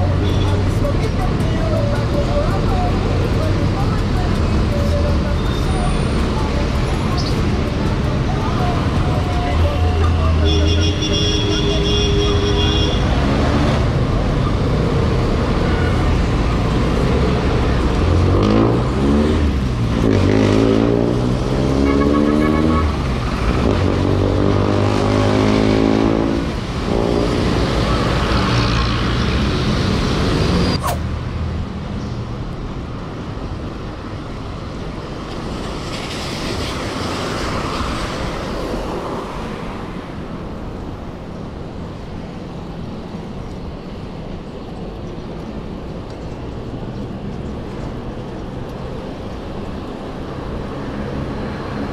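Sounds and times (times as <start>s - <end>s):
vehicle engines running and revving: 0.0s - 51.9s.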